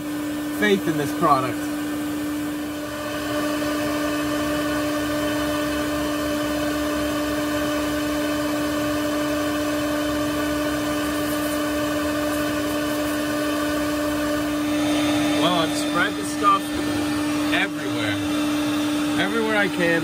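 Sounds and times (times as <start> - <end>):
shop vac whining: 0.0 - 20.0.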